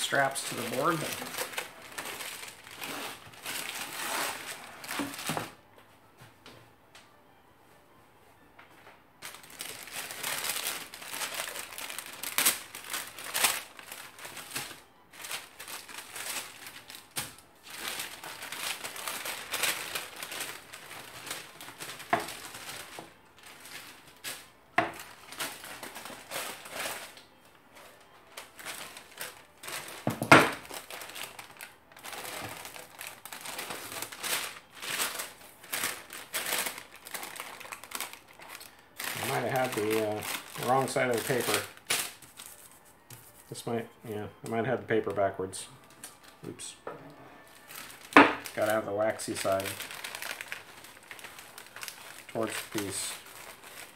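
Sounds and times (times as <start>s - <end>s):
wax paper crinkling and rustling: 0.0s - 5.6s, 9.2s - 43.7s, 47.4s - 53.9s.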